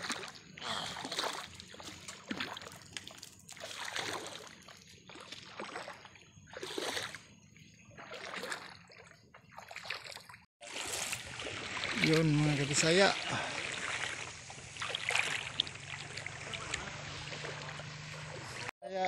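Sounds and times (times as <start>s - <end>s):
footsteps splashing through water: 0.0s - 18.7s.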